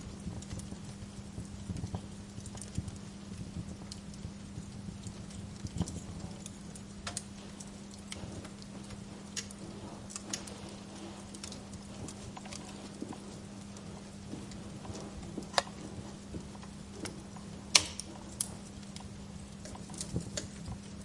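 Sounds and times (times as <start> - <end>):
wood fire hissing: 0.0 - 21.0
logs popping and snapping: 1.6 - 21.0.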